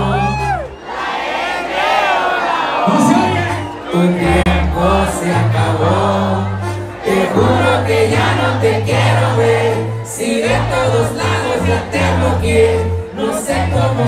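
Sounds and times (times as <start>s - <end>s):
loud live norteno music: 0.0s - 1.0s, 2.7s - 14.0s
crowd singing along: 0.0s - 14.0s.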